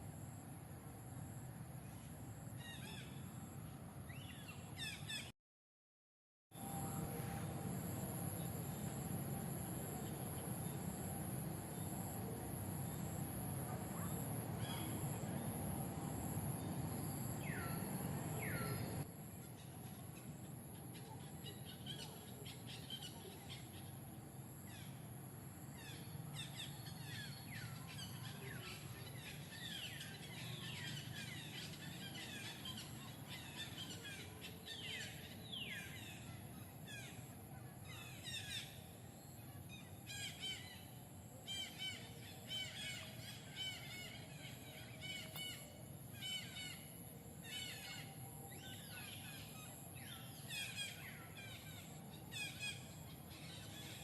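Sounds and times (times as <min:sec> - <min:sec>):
low background hum: 0:00.0 - 0:05.3, 0:06.6 - 0:54.0.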